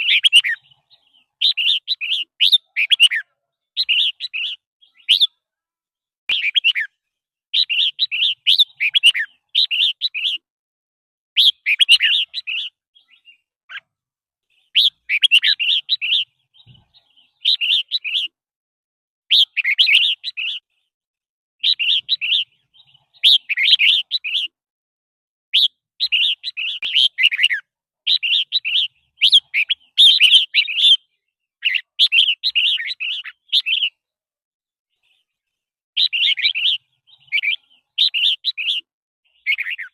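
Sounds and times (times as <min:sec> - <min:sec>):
bird singing warbled phrases: 0:00.0 - 0:10.5, 0:11.4 - 0:18.4, 0:19.3 - 0:21.0, 0:21.6 - 0:24.6, 0:25.5 - 0:34.2, 0:34.9 - 0:39.9.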